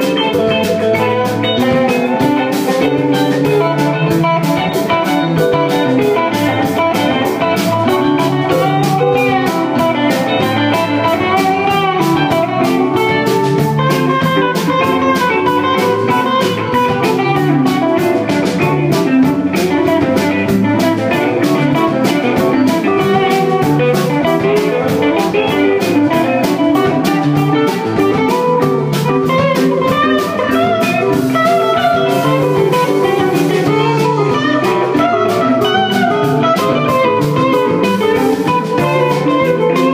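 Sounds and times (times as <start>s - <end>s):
bass and keyboard: 0.0s - 39.9s
drum kit beat: 0.0s - 39.9s
electric guitars: 0.0s - 39.9s.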